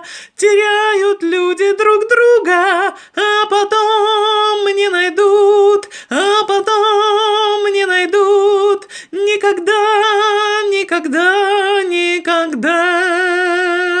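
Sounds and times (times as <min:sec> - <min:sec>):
woman singing a cappella: 0:00.0 - 0:14.0.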